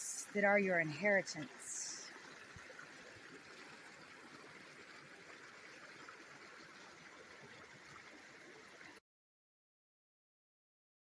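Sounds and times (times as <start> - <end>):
faint running water: 0.0 - 9.0.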